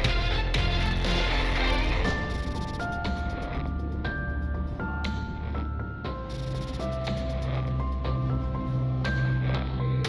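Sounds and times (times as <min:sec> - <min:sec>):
background music with steady bass: 0:00.0 - 0:10.0.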